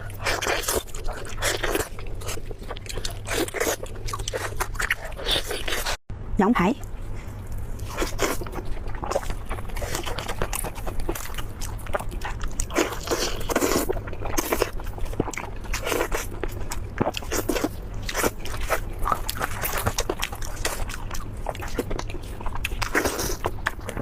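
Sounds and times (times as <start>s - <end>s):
crunching and chewing food: 0.0s - 6.0s, 6.8s - 24.0s.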